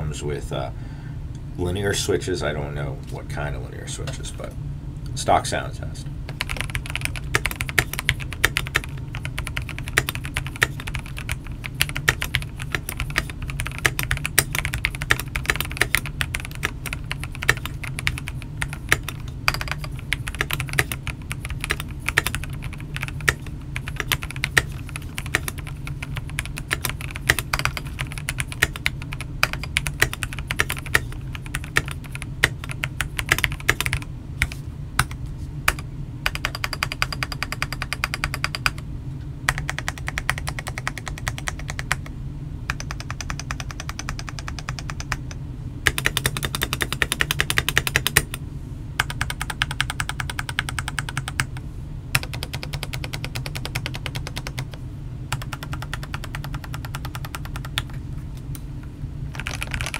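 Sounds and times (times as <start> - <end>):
low steady hum: 0.0 - 59.9
mechanical keyboard typing: 6.4 - 38.8, 39.5 - 42.1, 42.7 - 48.4, 49.0 - 51.6, 52.2 - 58.0, 59.3 - 59.9.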